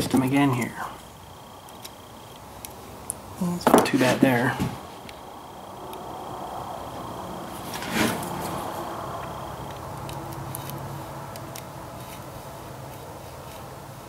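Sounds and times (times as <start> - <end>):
handling noises of tools: 0.0 - 5.2, 7.5 - 14.0
steady low hum: 0.0 - 14.0.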